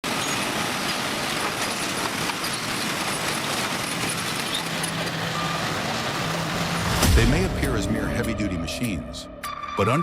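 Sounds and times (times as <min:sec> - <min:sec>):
earthmoving machinery running: 0:00.1 - 0:08.3.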